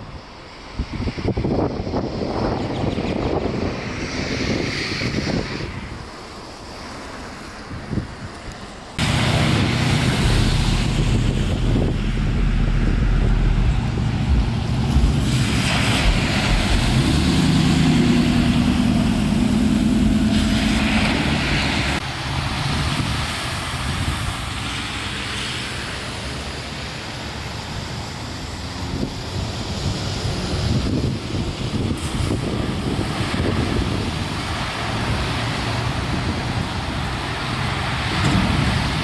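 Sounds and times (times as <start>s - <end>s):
vehicle engines running: 0.0s - 39.0s
wind and water noise: 0.0s - 39.0s
tyres splashing through water: 3.7s - 39.0s.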